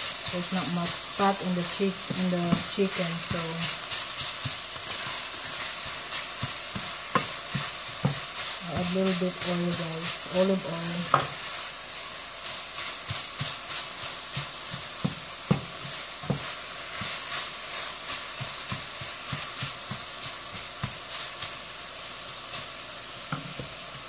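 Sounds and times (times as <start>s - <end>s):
spatula tapping and scraping pan: 0.0s - 11.6s, 12.4s - 21.7s, 22.5s - 24.0s
food sizzling in a skillet: 0.0s - 24.0s.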